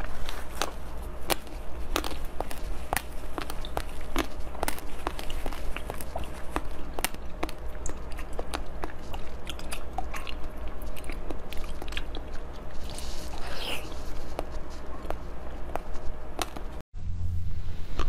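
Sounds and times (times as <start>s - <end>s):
chewing frozen treat: 0.0s - 16.8s.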